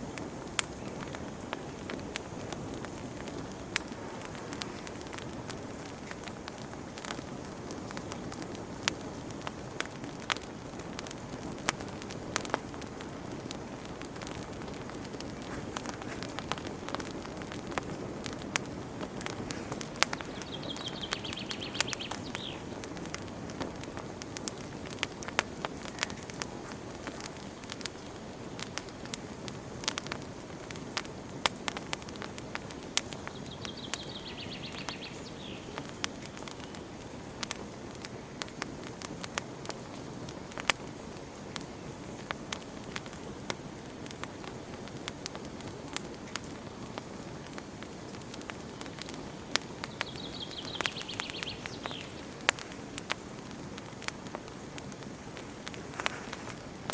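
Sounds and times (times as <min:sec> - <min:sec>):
campfire crackling and popping: 0:00.0 - 0:56.9
low rush of flames: 0:00.0 - 0:56.9.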